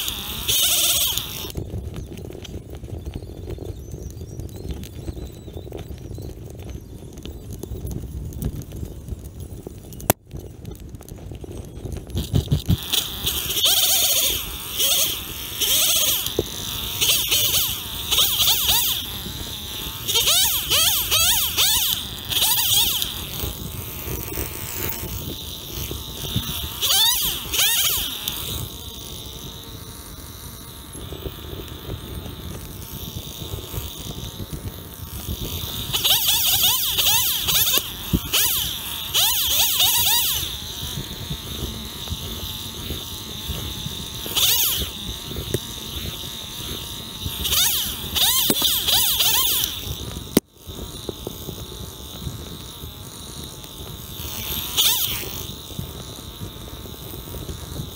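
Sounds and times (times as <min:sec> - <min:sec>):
chainsaw idling and revving: 0:00.0 - 0:01.6, 0:12.2 - 0:57.9.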